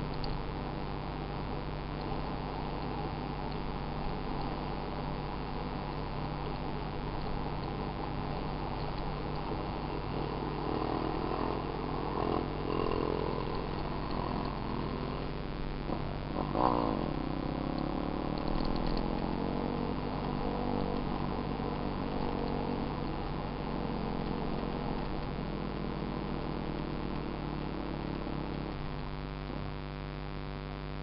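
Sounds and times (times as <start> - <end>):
dirt bike engine running: 0.0 - 29.6.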